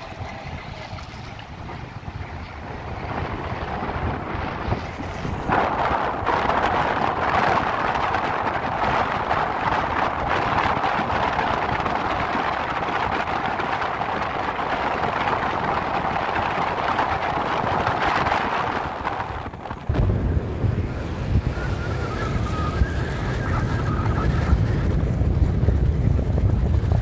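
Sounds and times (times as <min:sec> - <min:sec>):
wind and water rushing: 0:00.0 - 0:27.0
wind buffeting microphone: 0:00.0 - 0:27.0.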